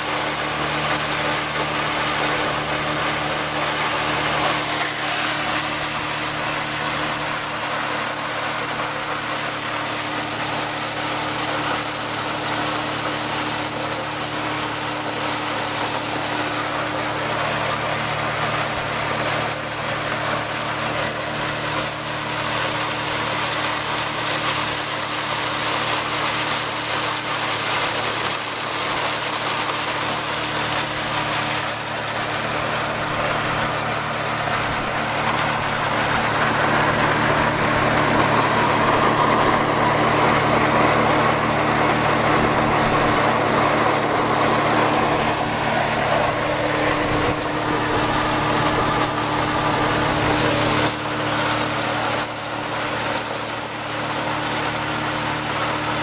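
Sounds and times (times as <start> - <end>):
diesel tractor running: 0.0 - 56.0
silage rushing through blower pipe: 0.0 - 56.0.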